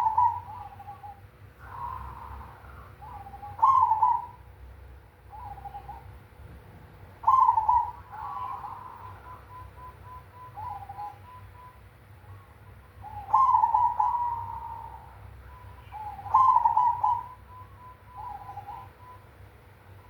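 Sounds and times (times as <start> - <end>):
dove cooing: 0.0 - 4.5, 5.2 - 6.2, 7.2 - 19.3.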